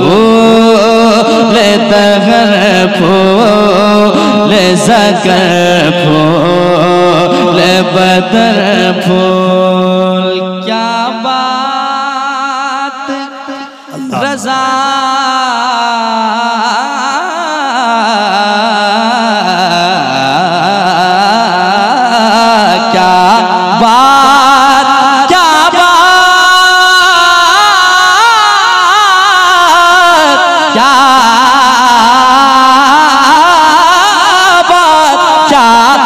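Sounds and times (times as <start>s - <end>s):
man singing into a microphone: 0.0s - 36.0s.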